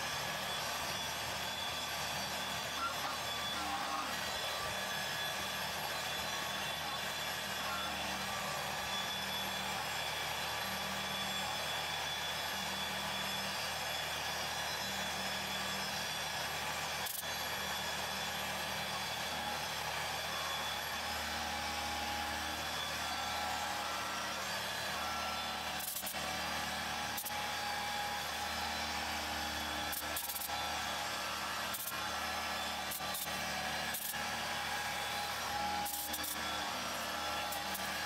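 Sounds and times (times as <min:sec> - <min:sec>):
milling machine cutting metal: 0:00.0 - 0:38.0.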